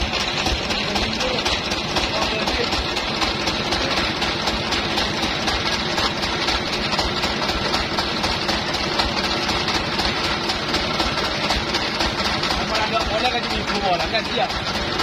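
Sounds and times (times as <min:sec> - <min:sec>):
engine idling with pulsing throb: 0:00.0 - 0:15.0.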